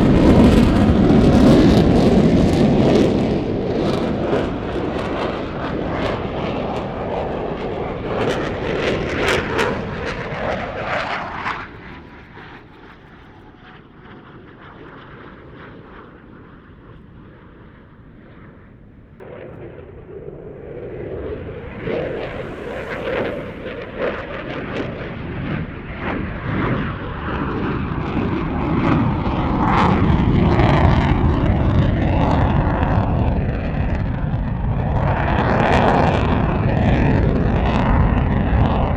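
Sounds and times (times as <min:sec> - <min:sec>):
jet engine roar with crackle: 0:00.0 - 0:38.9.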